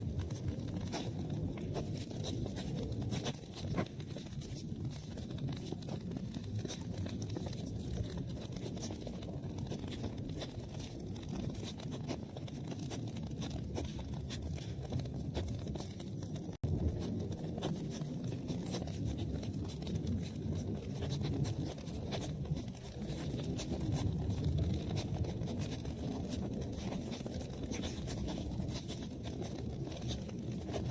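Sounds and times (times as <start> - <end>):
low rumble of flames: 0.0 - 30.9
wood fire crackling and popping: 0.0 - 30.9.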